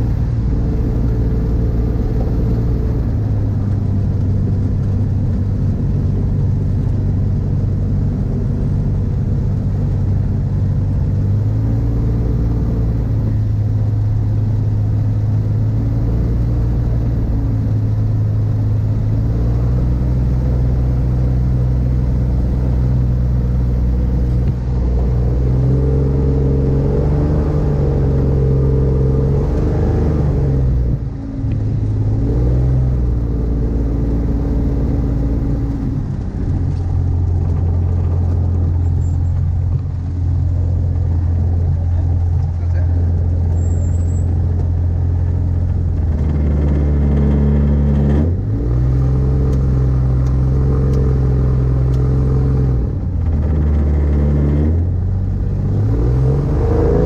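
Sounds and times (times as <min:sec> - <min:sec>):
two-stroke aircraft engine running: 0:00.0 - 0:57.0.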